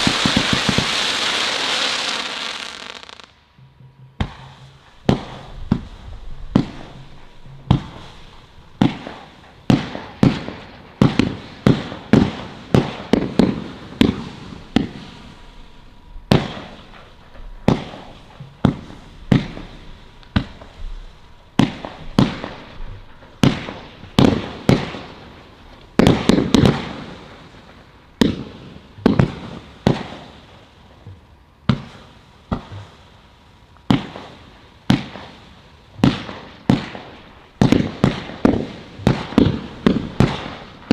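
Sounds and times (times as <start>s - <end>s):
firework crackling: 0.0s - 3.4s, 4.2s - 31.0s, 31.7s - 40.9s
fireworks sharp bangs: 0.0s - 3.4s, 4.1s - 30.6s, 31.6s - 33.0s, 33.9s - 40.9s.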